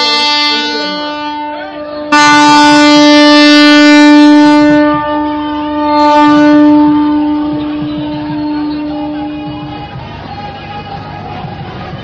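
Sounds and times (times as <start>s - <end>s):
train horn blast: 0.0s - 10.3s.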